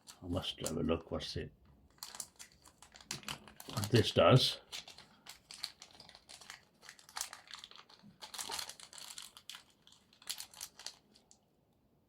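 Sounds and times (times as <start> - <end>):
packaging crinkling and rustling: 0.0 - 1.0, 1.8 - 11.4.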